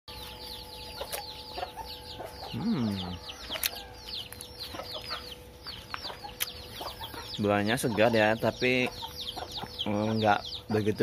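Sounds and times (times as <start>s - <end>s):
chickens clucking: 0.1s - 11.0s
chicks peeping: 0.1s - 11.0s.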